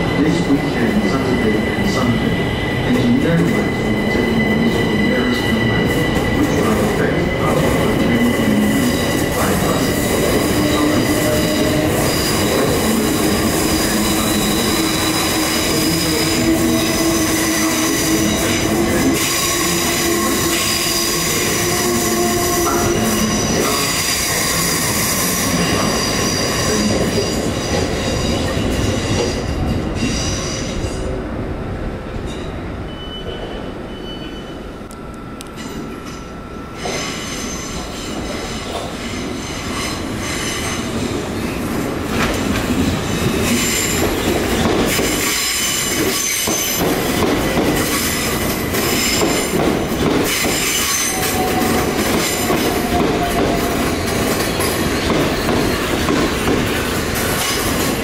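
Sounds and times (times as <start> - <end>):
train wheels squealing: 0.0 - 31.0, 32.3 - 41.5, 43.2 - 49.6, 50.3 - 58.0
train rumbling on rails: 0.0 - 58.0.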